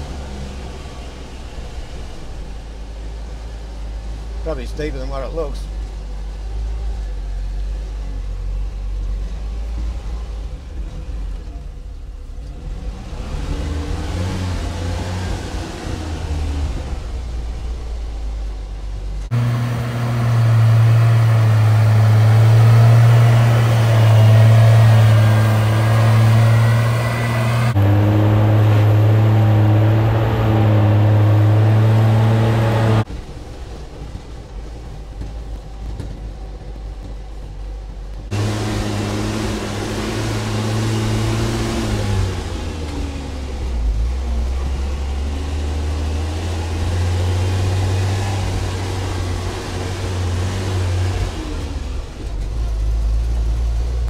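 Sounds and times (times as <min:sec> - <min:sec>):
truck engine under load: 0:00.0 - 0:54.0.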